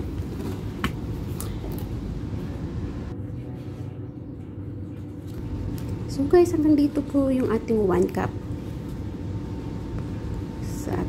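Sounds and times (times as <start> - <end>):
faint hum: 0.0 - 11.0
low background rumble: 0.0 - 11.0.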